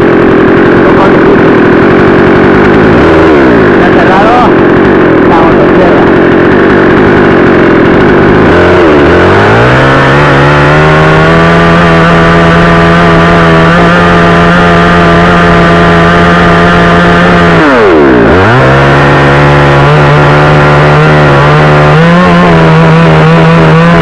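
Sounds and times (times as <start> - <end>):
chainsaw running at high throttle: 0.0 - 24.0.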